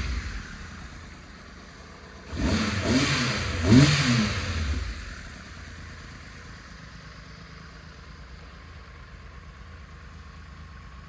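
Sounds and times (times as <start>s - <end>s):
motorcycle engine idling: 0.0s - 2.4s, 3.4s - 11.0s.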